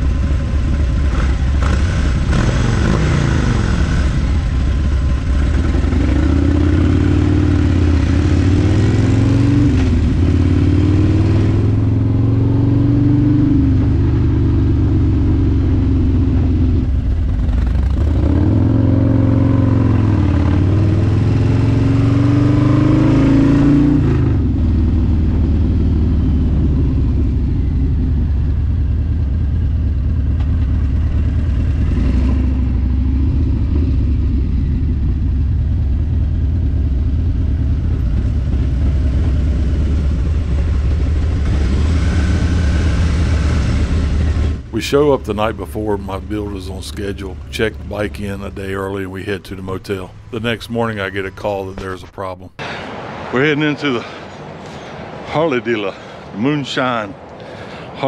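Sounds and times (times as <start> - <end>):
motorcycle engine accelerating: 0.0 - 52.4.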